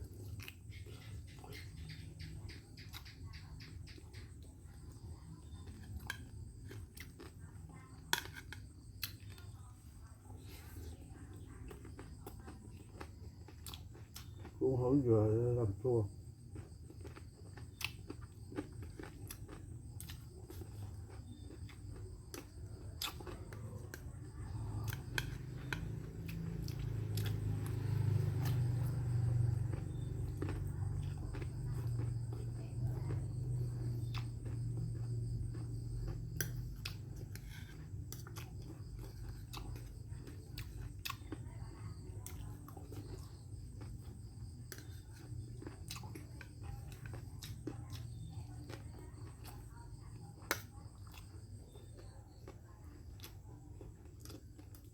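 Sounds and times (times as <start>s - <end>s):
chewing: 0.0s - 54.9s.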